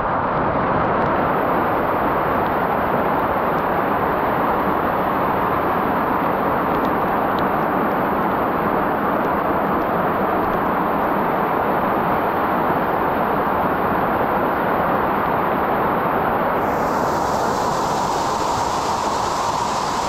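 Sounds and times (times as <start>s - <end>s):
stream rushing over rocks: 1.2s - 15.4s, 16.5s - 20.0s.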